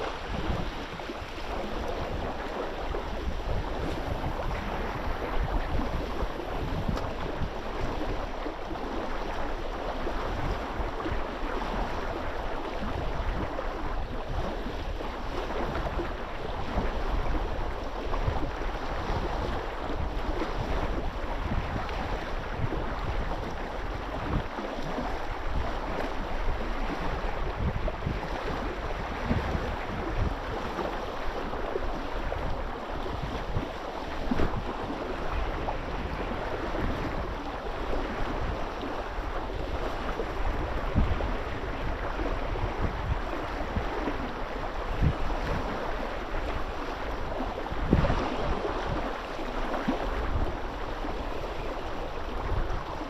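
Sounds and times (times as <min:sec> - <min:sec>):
water lapping and sloshing: 0:00.0 - 0:53.0
wind buffeting microphone: 0:00.0 - 0:53.0.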